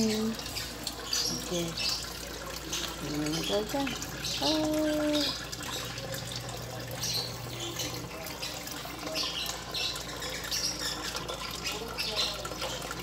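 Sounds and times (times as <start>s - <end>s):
water pouring into tank: 0.0s - 13.0s.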